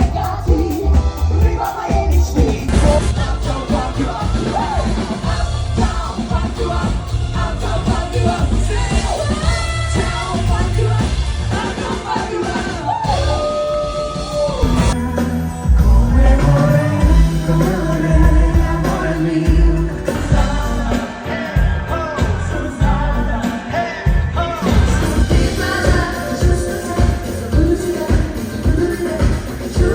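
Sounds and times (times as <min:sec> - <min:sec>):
lead singer singing: 0:00.0 - 0:29.9
live pop-rock band playing: 0:00.0 - 0:29.9.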